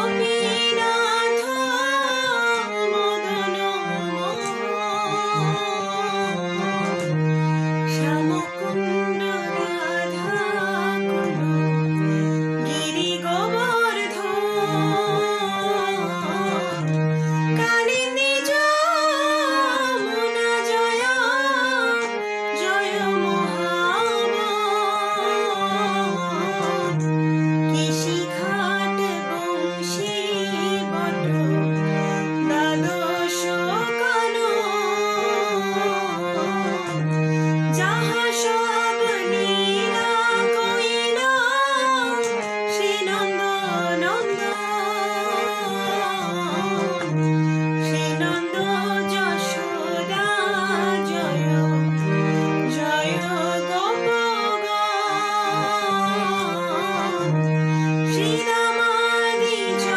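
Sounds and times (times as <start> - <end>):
woman singing: 0.0 - 7.1, 7.8 - 11.6, 12.6 - 27.1, 27.7 - 57.4, 58.0 - 59.9
harmonium chords: 0.0 - 59.9.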